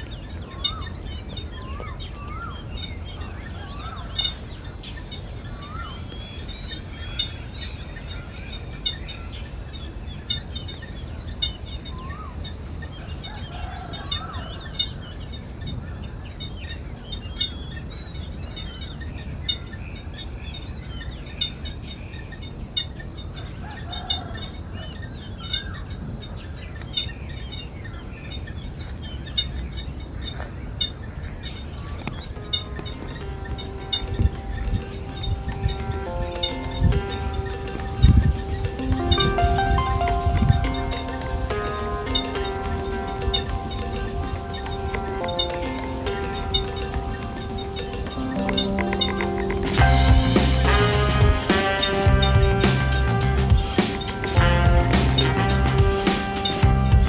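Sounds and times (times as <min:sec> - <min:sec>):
cicadas and crickets whining: 0:00.0 - 0:57.0.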